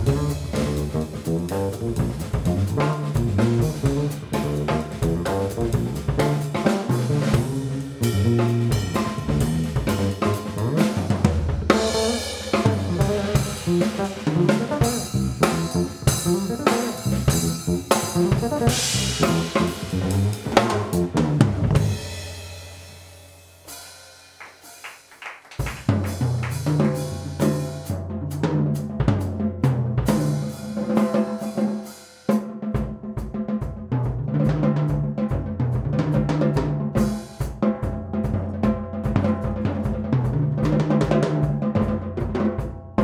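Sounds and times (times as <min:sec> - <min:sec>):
drum kit solo: 0:00.0 - 0:43.0.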